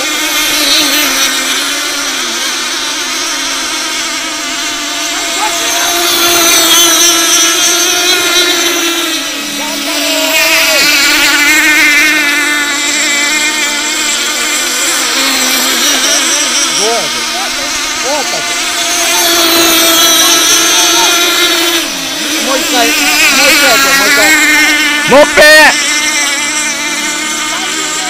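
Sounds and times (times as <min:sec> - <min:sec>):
outboard motors whining: 0:00.0 - 0:28.0.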